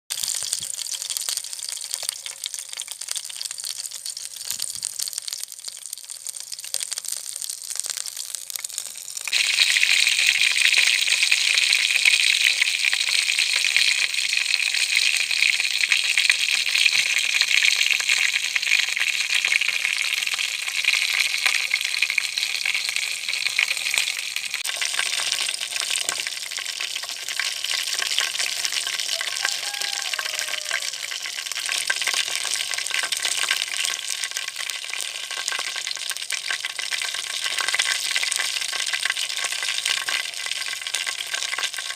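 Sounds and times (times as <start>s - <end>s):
chicken sizzling in hot oil: 0.1s - 41.9s.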